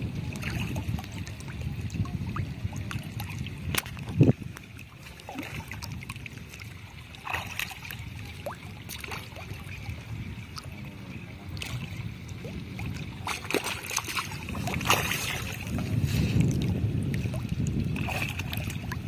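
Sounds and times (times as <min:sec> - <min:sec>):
low wash of water: 0:00.0 - 0:19.0
fish splashing at the surface: 0:00.3 - 0:10.7, 0:12.7 - 0:19.0.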